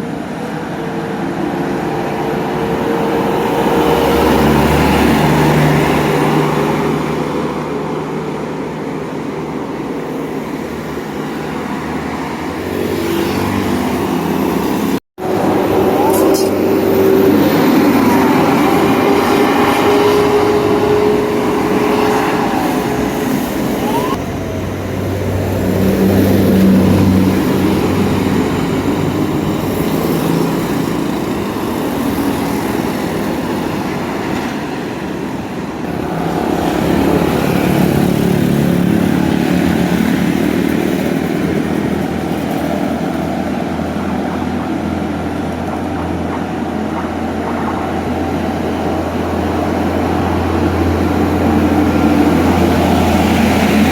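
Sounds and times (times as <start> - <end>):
heavy diesel engine passing: 0.0 - 53.9
heavy engine hum: 0.0 - 53.9
traffic passing: 0.0 - 53.9.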